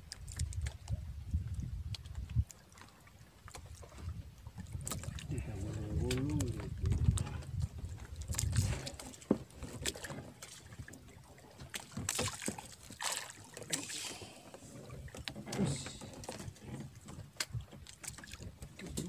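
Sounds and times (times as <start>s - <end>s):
water washing against boat hull: 0.0s - 19.0s.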